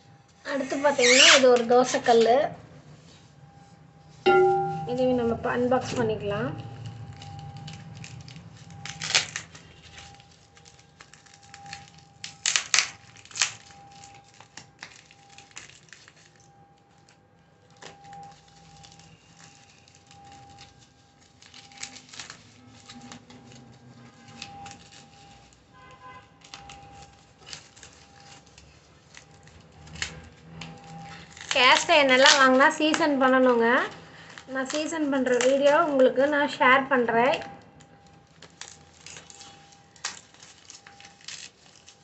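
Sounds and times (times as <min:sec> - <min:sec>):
plastic tape crinkling and ripping: 0:00.3 - 0:03.1, 0:05.3 - 0:36.6, 0:37.2 - 0:42.0.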